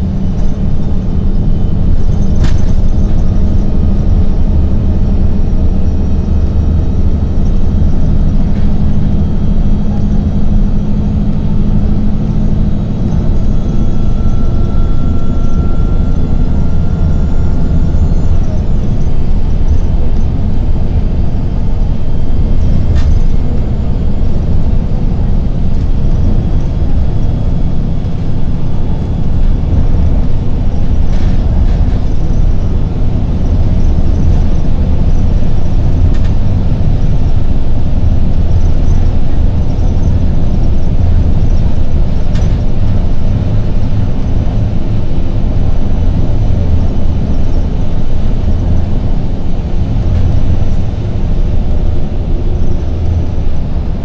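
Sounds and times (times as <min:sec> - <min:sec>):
bus engine droning: 0:00.0 - 0:54.0
road noise: 0:00.0 - 0:54.0.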